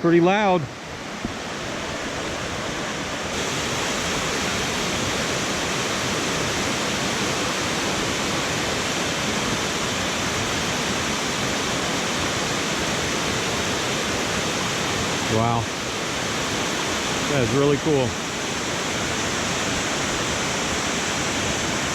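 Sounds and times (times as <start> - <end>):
waterfall rushing over rock: 0.3 - 21.9.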